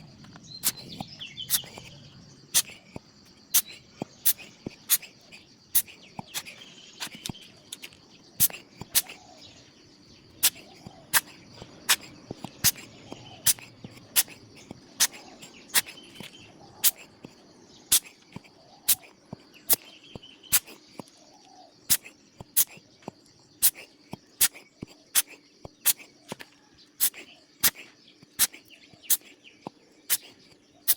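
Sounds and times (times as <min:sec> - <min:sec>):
bird chirps: 0:00.0 - 0:30.9
crickets chirping: 0:00.0 - 0:30.9.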